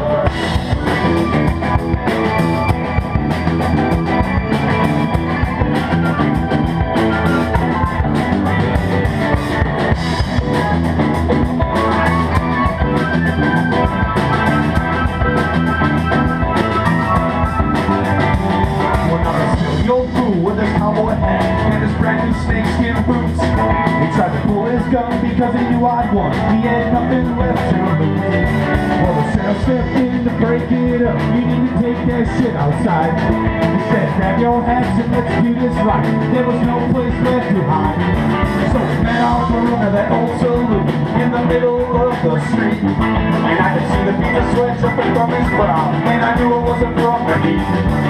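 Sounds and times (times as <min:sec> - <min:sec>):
drum kit: 0:00.0 - 0:48.0
electric guitars: 0:00.0 - 0:48.0
keyboard: 0:00.0 - 0:48.0.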